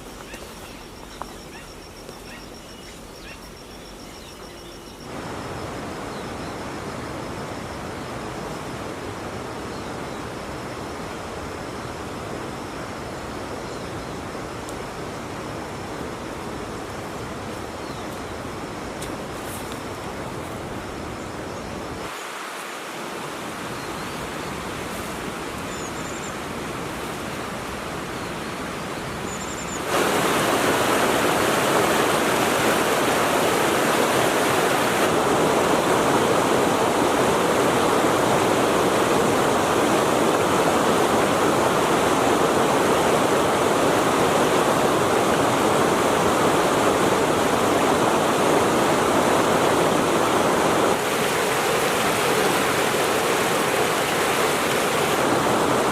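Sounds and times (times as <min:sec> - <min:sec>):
river water rushing: 0:05.0 - 0:55.9.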